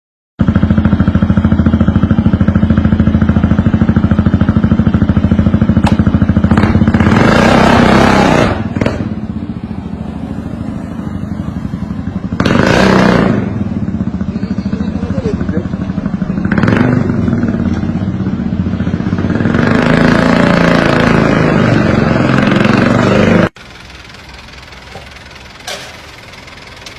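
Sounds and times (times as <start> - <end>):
engine running: 0.4 - 26.9.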